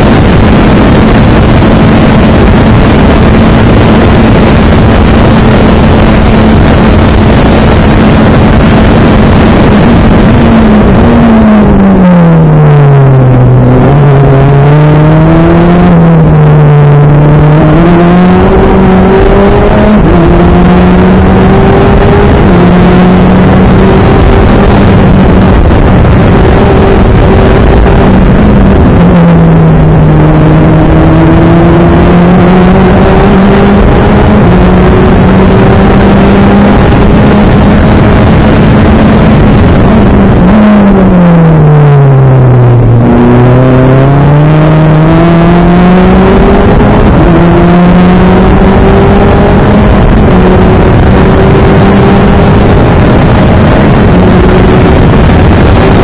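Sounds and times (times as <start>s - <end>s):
race car engine running loud: 0.0s - 56.0s
wind and road noise: 0.0s - 56.0s.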